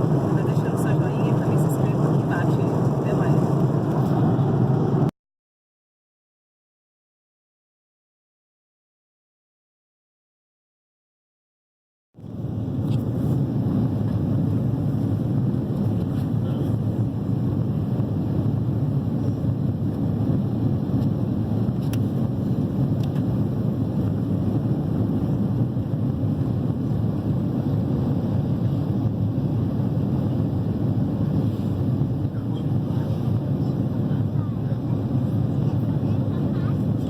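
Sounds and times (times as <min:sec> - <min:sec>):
jet engine cabin noise: 0:00.0 - 0:05.1, 0:12.2 - 0:37.0.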